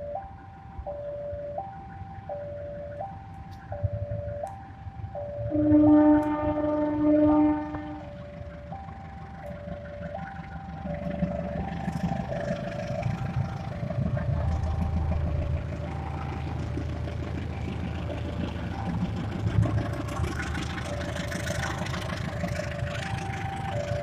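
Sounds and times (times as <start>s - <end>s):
level crossing two-tone signal: 0.0s - 19.4s
engines rumbling: 0.0s - 24.0s.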